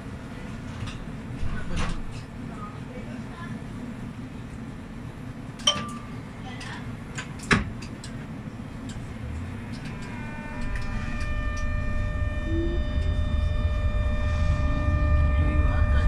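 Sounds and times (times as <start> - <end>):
tram running rumble: 0.0 - 16.0
tram traction whine: 0.0 - 16.0.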